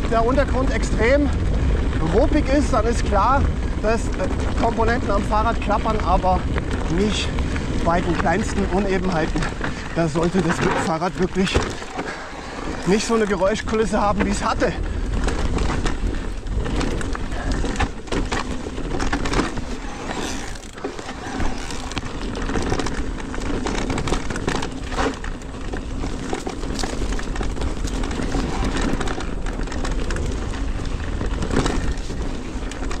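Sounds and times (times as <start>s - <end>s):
bike knocking and rattling: 0.0s - 33.0s
bike tyre and trail noise: 0.0s - 33.0s.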